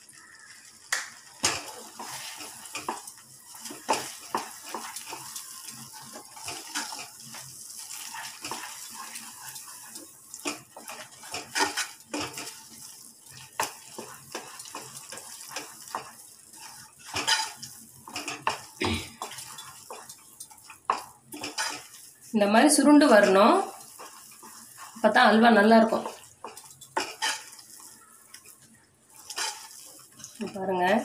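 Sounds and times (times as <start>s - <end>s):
light sizzle: 0.0s - 31.0s
wooden spatula scraping metal pan: 1.4s - 12.8s, 13.5s - 22.0s, 22.9s - 31.0s.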